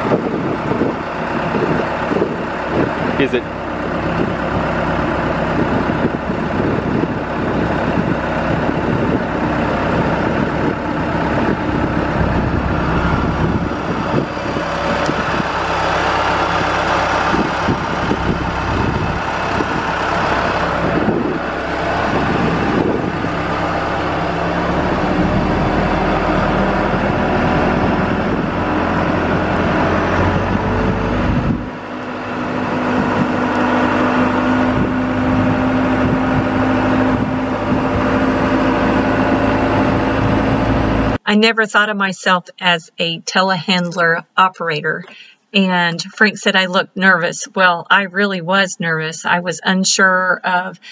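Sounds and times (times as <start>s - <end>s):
engine running steadily: 0.0s - 41.2s, 50.5s - 50.9s.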